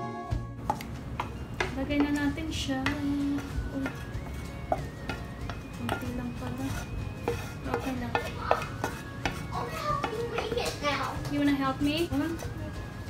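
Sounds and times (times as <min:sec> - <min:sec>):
wooden spoon scraping saucepan: 0:00.6 - 0:12.8.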